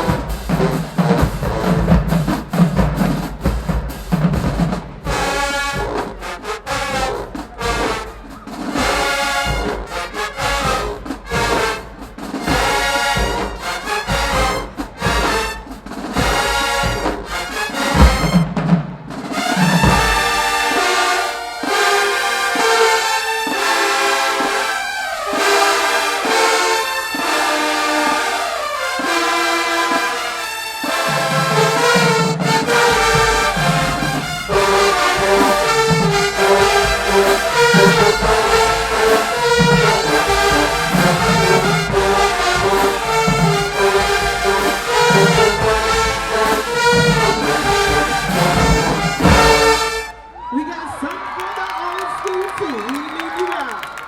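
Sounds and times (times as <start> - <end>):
brass band playing chords: 0.0 - 50.4
drums: 0.0 - 50.5.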